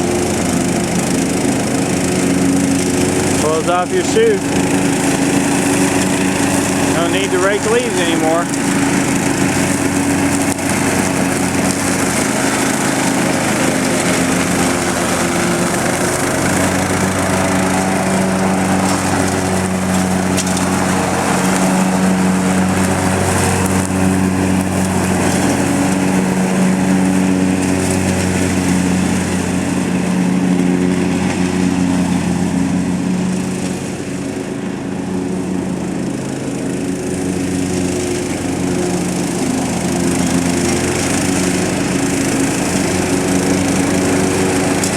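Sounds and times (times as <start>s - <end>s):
lawn mower engine running: 0.0s - 44.9s
mower blade chopping leaves: 0.0s - 44.9s.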